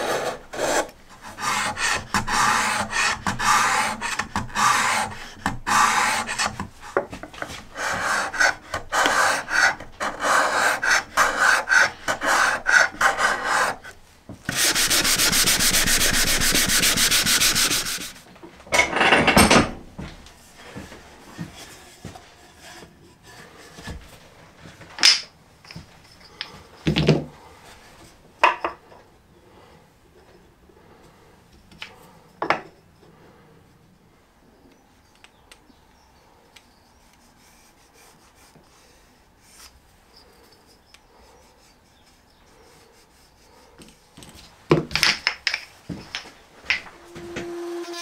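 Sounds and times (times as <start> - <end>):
knocks and scrapes of wood and tools: 0.0 - 29.1, 37.0 - 48.0.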